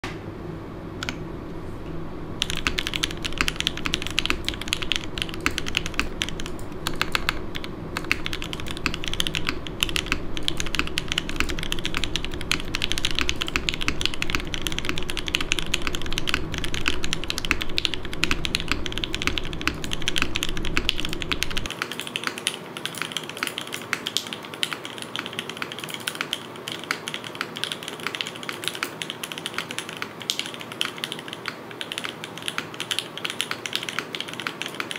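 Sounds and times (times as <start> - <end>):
fast mechanical keyboard typing: 2.4 - 34.9.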